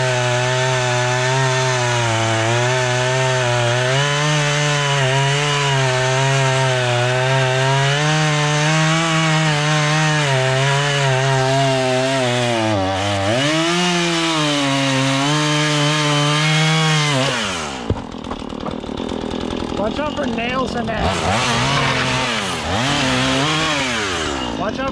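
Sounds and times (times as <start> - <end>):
chainsaw cutting through wood: 0.0 - 24.9.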